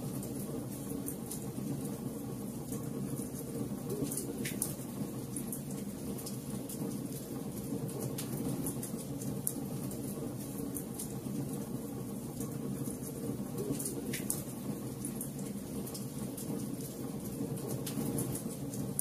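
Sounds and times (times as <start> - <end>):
wood fire burning: 0.1 - 19.0.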